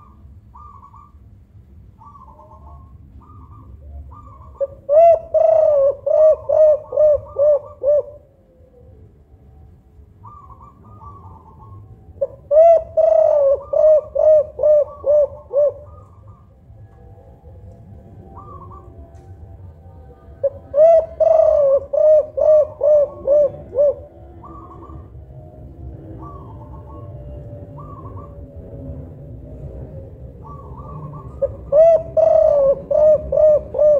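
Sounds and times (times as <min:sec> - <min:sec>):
dove cooing: 0:00.0 - 0:01.3, 0:02.0 - 0:33.9.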